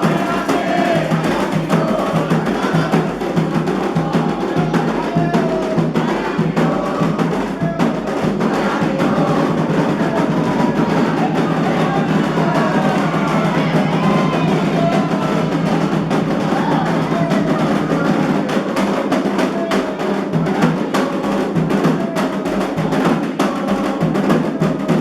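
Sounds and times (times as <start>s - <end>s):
hand drums beating: 0.0s - 25.0s
voices singing: 0.0s - 25.0s.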